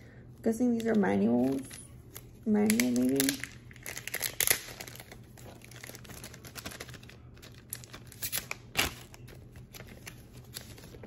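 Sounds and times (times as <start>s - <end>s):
paper crinkling and rustling: 0.8s - 11.0s.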